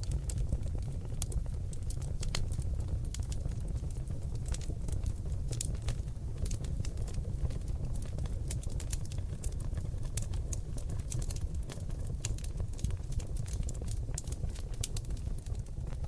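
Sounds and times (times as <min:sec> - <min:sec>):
logs crackling and popping: 0:00.0 - 0:16.0
low rumble of burning fire: 0:00.0 - 0:16.0.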